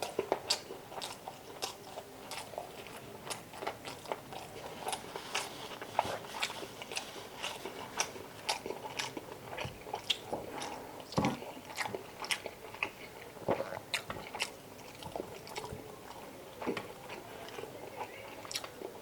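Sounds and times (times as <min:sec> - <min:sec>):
chewing mouth clicks and smacks: 0:00.0 - 0:19.0.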